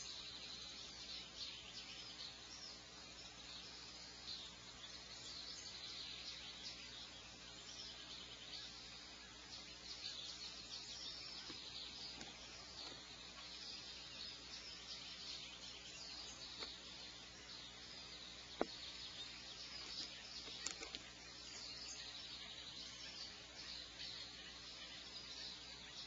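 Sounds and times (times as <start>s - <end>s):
high-pitched chirping chorus: 0.0s - 26.0s.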